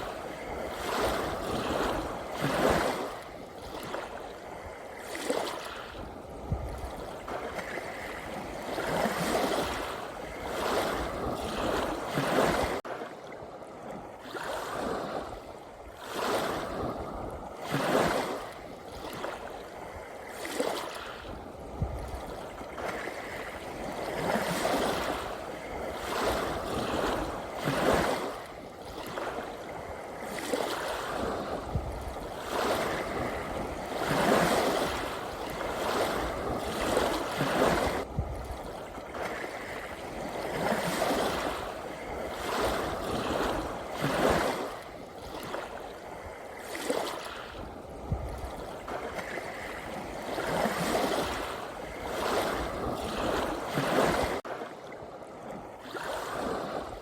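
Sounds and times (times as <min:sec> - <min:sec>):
sea waves washing in: 0:00.0 - 0:57.0.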